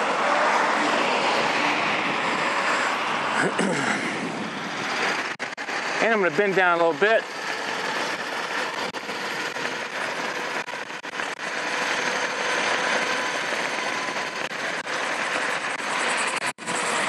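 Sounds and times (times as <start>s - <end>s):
wind and tyre noise: 0.0s - 17.0s.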